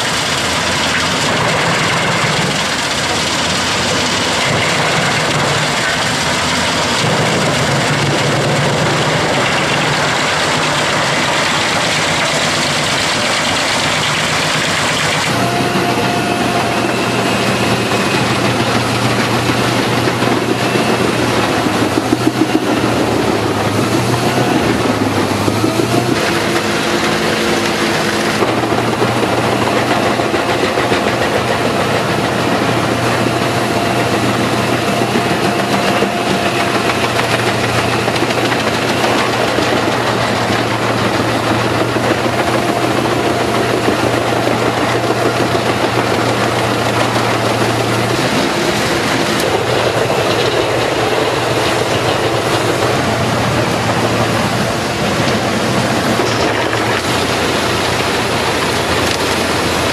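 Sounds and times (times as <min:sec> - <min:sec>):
wood chipper chipping trunk: 0:00.0 - 0:59.9.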